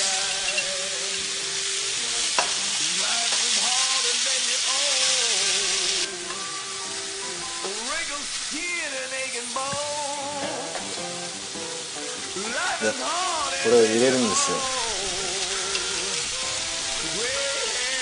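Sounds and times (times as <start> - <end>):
background music with melody: 0.0 - 18.0
food sizzling in a hot pan: 0.0 - 18.0.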